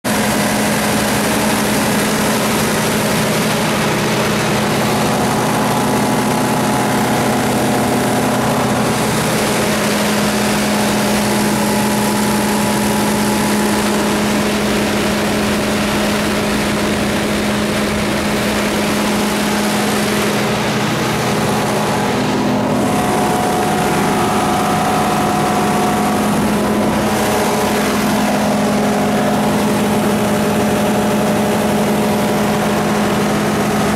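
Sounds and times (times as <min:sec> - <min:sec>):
diesel generator running: 0:00.0 - 0:33.9.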